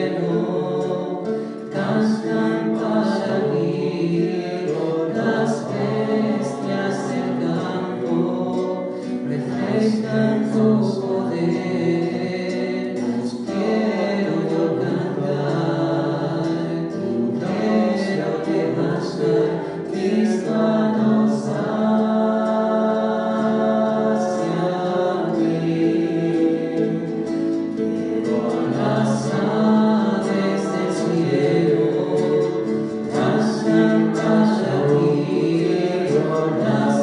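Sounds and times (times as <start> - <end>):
choir singing worship song: 0.0 - 37.0.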